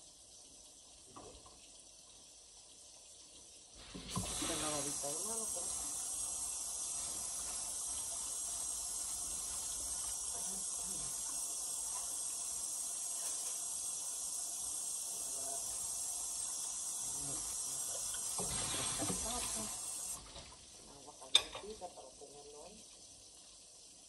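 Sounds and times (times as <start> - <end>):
fish frying in hot oil: 0.0 - 24.0.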